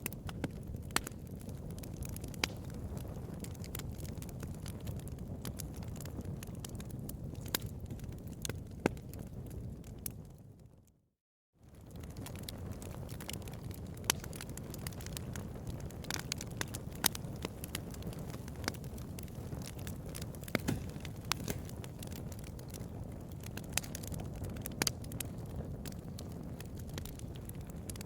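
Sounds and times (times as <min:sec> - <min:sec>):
fire pops and snaps: 0:00.0 - 0:10.4, 0:11.7 - 0:28.0
fire low rumble: 0:00.0 - 0:10.7, 0:11.6 - 0:28.0.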